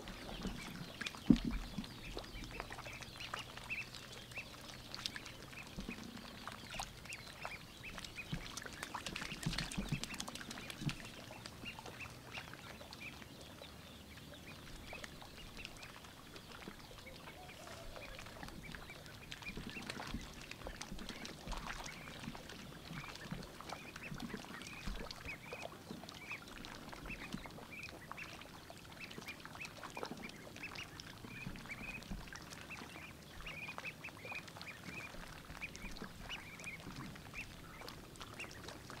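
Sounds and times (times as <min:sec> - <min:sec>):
ducklings dabbling and splashing: 0:00.0 - 0:39.0
ducklings peeping: 0:00.0 - 0:39.0.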